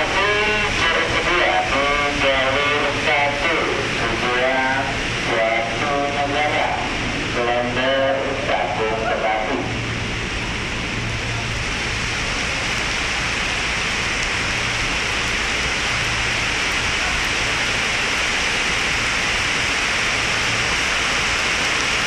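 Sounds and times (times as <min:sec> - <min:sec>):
heavy rain on roof: 0:00.0 - 0:22.0.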